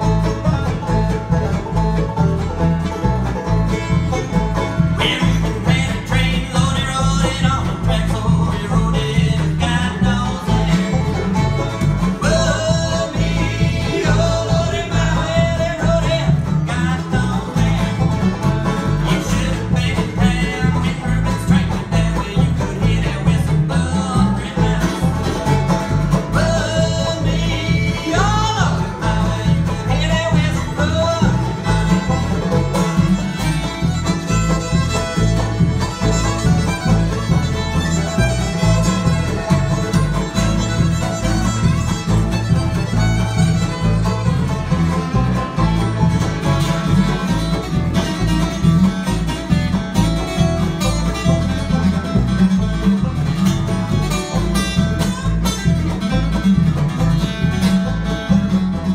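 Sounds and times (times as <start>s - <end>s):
acoustic guitar rhythm: 0.0s - 58.9s
banjo: 0.0s - 58.9s
fiddle with sliding notes: 0.0s - 58.9s
upright bass: 0.0s - 58.9s.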